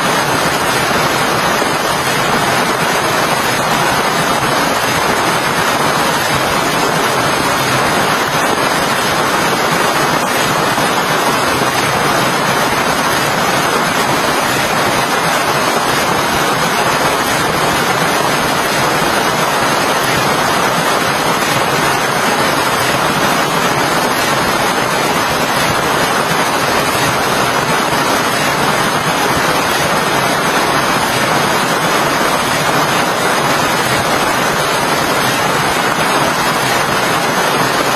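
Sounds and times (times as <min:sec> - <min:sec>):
heavy rain hissing: 0:00.0 - 0:37.9.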